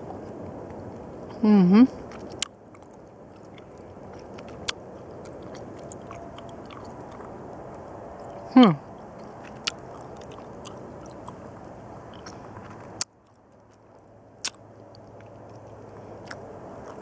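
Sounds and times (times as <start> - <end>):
person chewing candy: 0.0 - 17.0.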